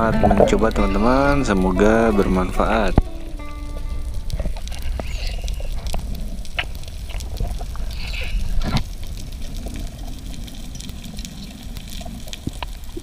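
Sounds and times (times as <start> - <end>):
underwater rumble of moving water: 0.0 - 13.0.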